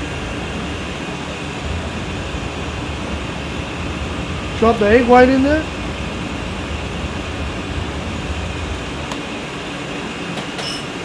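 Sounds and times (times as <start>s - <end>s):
kitchen stove and ventilation rumble: 0.0s - 11.0s.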